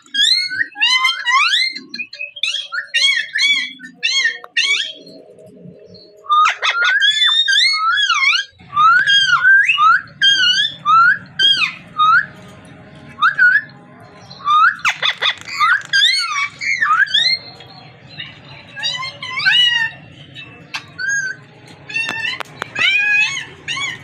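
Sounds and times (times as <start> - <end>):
parrot whistling and chirping: 0.0 - 5.2, 5.9 - 12.4, 13.1 - 24.0
parrot squawk: 0.1 - 5.1, 6.3 - 12.4, 13.2 - 24.0.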